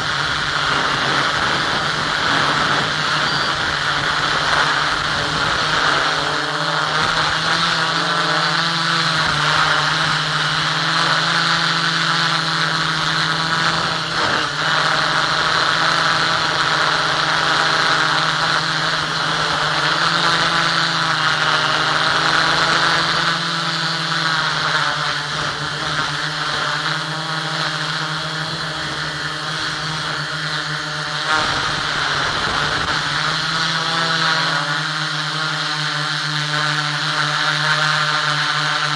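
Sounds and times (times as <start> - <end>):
drone motor and propeller whine: 0.0 - 38.9.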